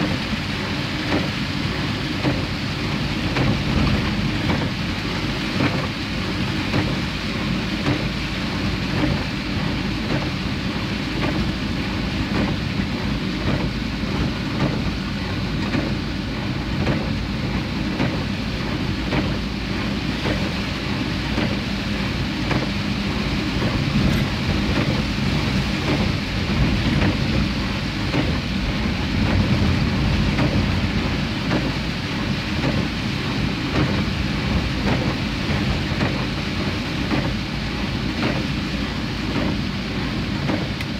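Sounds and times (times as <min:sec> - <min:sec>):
heavy rain hiss: 0:00.0 - 0:40.9
raindrop taps: 0:00.0 - 0:40.9
tyres on wet road: 0:00.0 - 0:40.9
vehicle rumble: 0:00.0 - 0:40.9.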